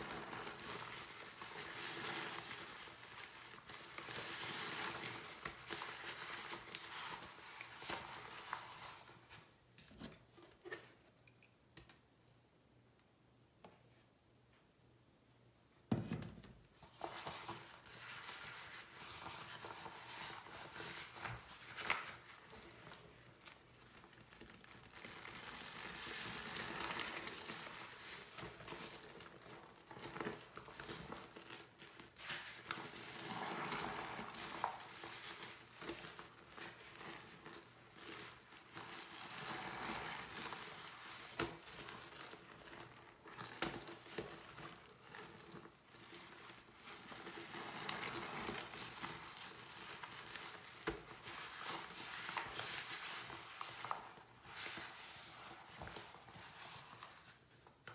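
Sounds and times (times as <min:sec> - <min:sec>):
wet sponge squeezed and rubbed: 0:00.0 - 0:09.5, 0:16.9 - 0:57.9.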